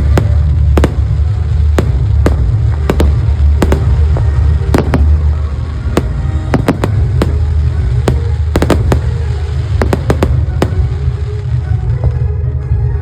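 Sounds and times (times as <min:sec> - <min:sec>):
fireworks cracks and bangs: 0:00.0 - 0:12.2
steady low rumble: 0:00.0 - 0:12.3.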